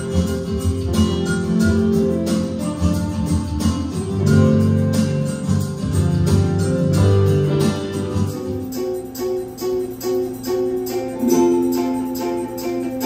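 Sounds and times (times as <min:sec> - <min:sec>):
guitar playing: 0:00.0 - 0:13.0
steady beat: 0:00.0 - 0:13.0.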